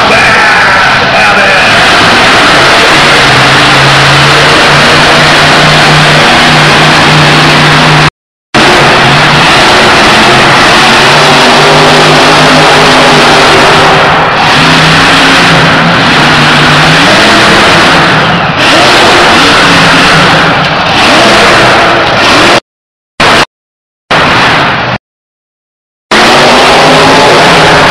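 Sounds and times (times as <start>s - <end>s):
truck engines revving loudly: 0.0s - 23.5s, 24.1s - 25.0s, 26.1s - 27.9s.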